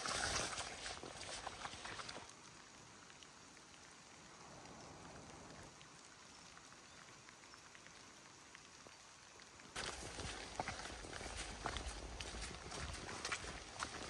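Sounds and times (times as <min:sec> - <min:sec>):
rain patter on leaves: 0:00.0 - 0:14.0.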